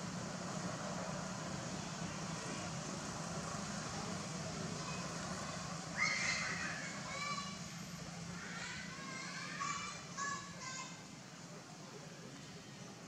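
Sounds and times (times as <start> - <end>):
low mechanical hum: 0.0 - 13.0
outdoor background noise: 0.0 - 13.0.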